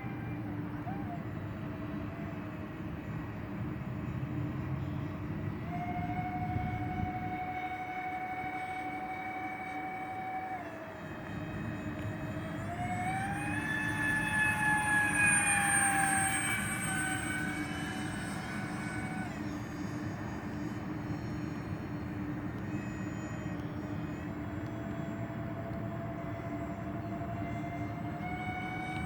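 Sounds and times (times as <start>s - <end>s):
electric ducted fan whine: 0.0s - 29.0s.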